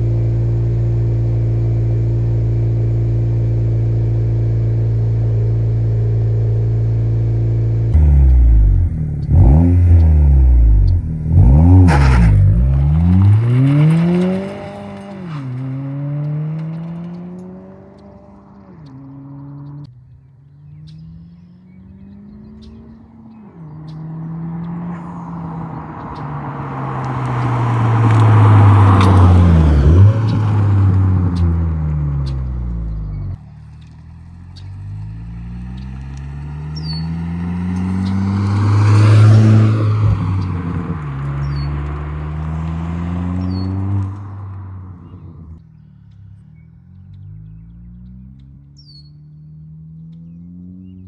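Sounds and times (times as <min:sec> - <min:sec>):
car engine revving: 0:00.0 - 0:19.9, 0:21.0 - 0:45.6.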